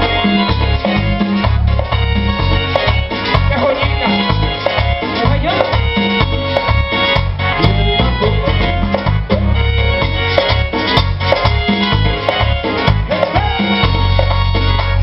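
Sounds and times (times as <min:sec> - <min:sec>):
tropical band music: 0:00.0 - 0:15.0.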